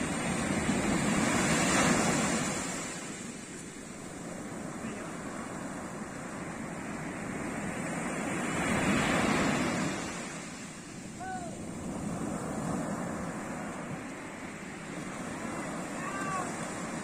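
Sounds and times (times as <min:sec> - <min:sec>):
ocean surf washing up beach: 0:00.0 - 0:17.0.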